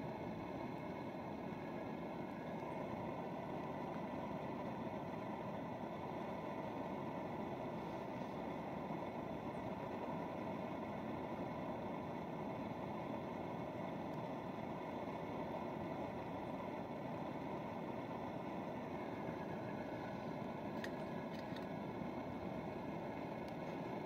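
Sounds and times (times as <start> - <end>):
gas stove burner roaring: 0.0 - 24.0.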